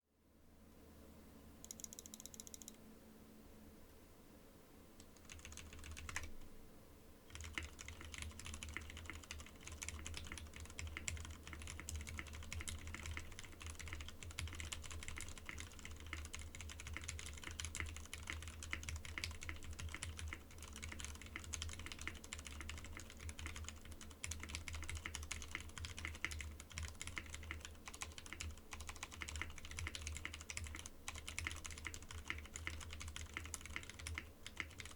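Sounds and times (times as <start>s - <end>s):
mechanical keyboard typing: 1.6s - 2.8s, 5.0s - 6.4s, 7.3s - 34.9s.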